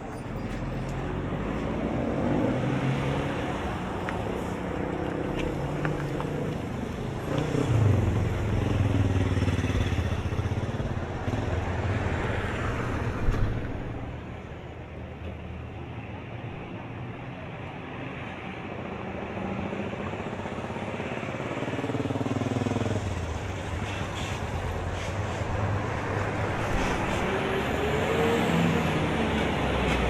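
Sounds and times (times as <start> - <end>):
vehicle engine running close by: 0.0 - 14.1, 19.0 - 30.0.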